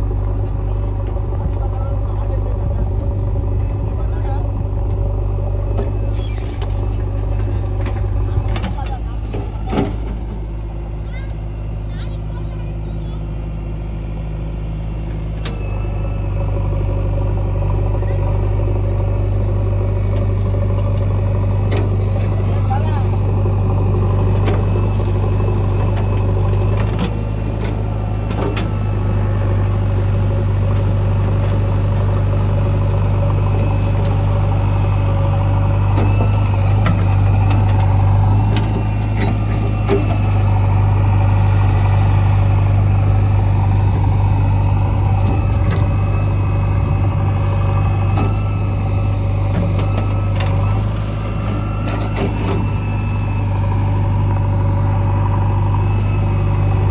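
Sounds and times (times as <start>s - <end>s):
heavy diesel engine running: 0.0s - 56.9s.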